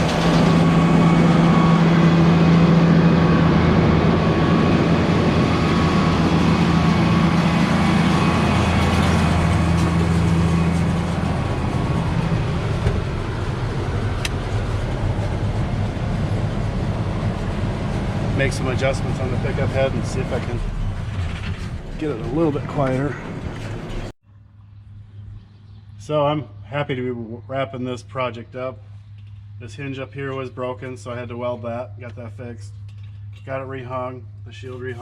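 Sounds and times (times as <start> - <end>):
baler mechanical drone: 0.0 - 35.0.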